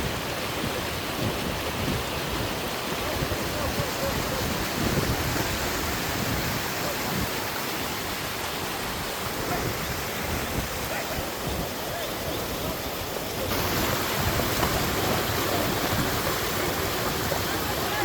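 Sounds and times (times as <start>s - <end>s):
mountain stream water rushing: 0.0s - 18.0s.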